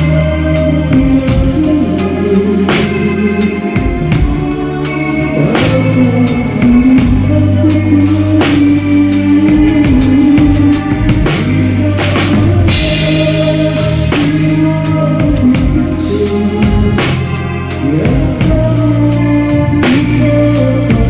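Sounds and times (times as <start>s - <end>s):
band track with bass and guitar: 0.0s - 21.0s
rock drum kit playing: 0.0s - 21.0s.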